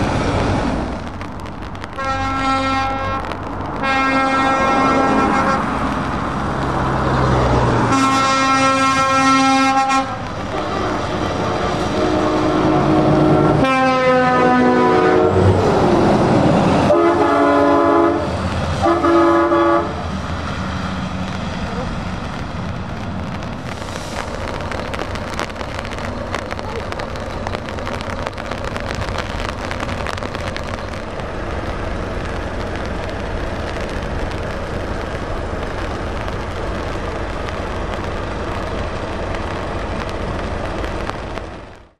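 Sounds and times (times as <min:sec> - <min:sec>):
truck diesel engines rumbling: 0:00.0 - 0:41.7
rain hissing: 0:00.0 - 0:41.9
tyres on wet road: 0:00.0 - 0:41.9.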